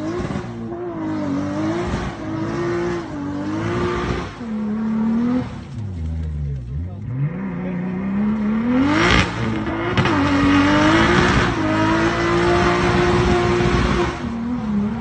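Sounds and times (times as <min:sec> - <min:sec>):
engine revving hard: 0:00.0 - 0:05.6, 0:07.0 - 0:15.0.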